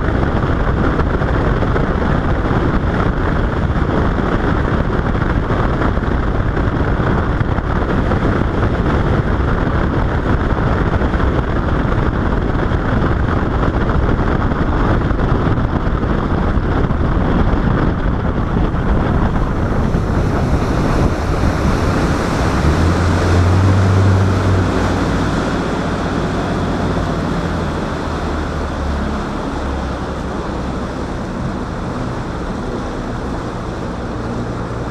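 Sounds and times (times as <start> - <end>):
boat engine hum: 0.0 - 34.9
water rushing past hull: 0.0 - 34.9
wind buffeting microphone: 0.0 - 34.9.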